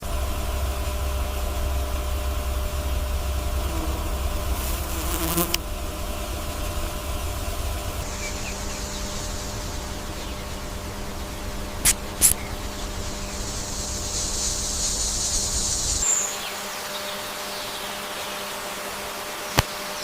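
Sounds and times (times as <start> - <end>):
low rumble and hiss: 0.0 - 19.4
buzzing hum: 0.0 - 20.0.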